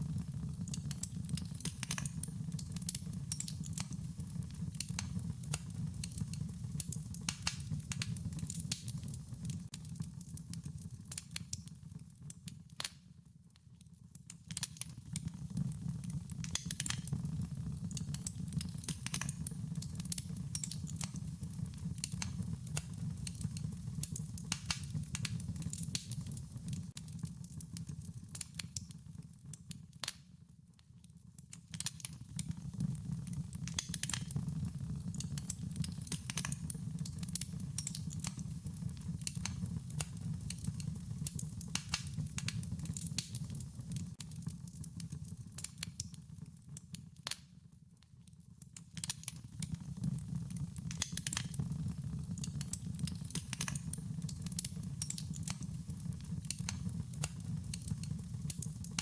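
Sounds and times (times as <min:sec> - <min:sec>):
low rumble of burning flames: 0:00.0 - 0:12.4, 0:14.6 - 0:29.7, 0:31.8 - 0:46.8, 0:49.0 - 0:59.0
wood fire crackling: 0:00.0 - 0:13.0, 0:14.1 - 0:30.4, 0:31.3 - 0:47.5, 0:48.6 - 0:59.0.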